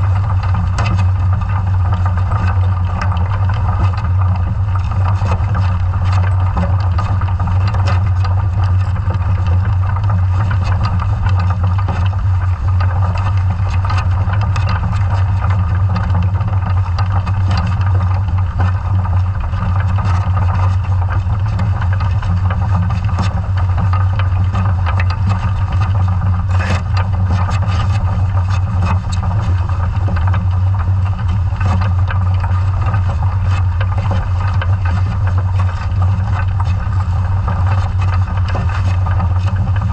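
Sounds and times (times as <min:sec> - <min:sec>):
dredge clicks and rattles: 0:00.0 - 0:39.9
underwater low hum: 0:00.0 - 0:39.9.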